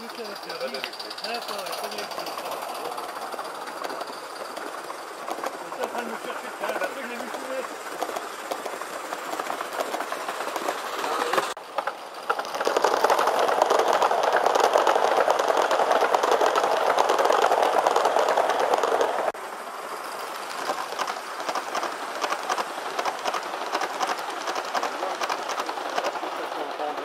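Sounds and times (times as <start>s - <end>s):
model train wheels clicking on rails: 0.0s - 27.0s.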